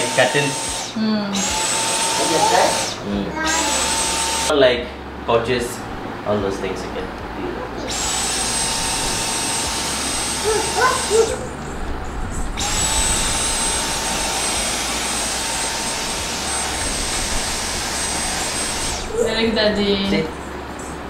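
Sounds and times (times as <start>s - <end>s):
vacuum cleaner whine: 0.0s - 4.7s, 7.8s - 21.0s.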